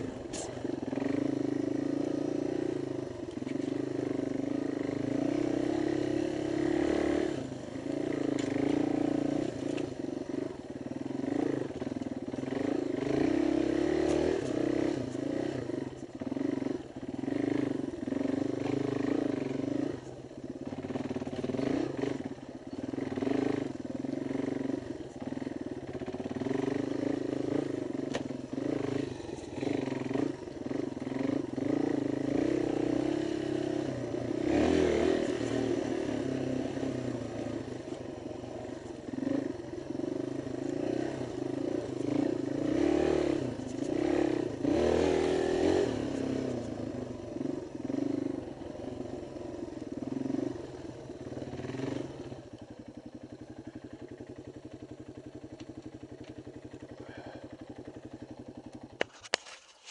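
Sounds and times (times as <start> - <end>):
dirt bike engine revving: 0.0 - 49.1, 49.8 - 52.4, 56.7 - 58.0.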